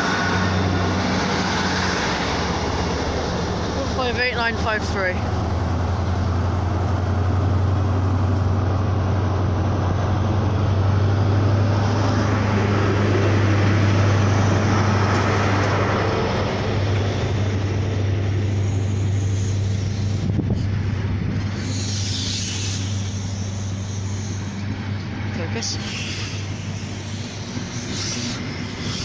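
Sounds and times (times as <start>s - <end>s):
diesel locomotive engine drone: 0.0s - 29.0s
train coaches rolling on rails: 0.0s - 29.0s.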